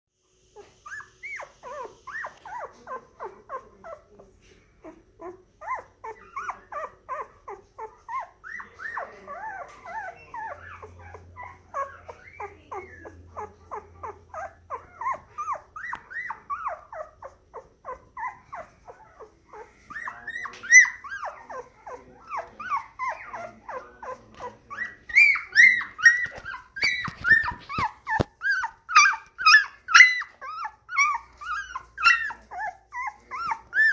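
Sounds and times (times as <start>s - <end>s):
puppy whimpering: 0.5s - 33.9s.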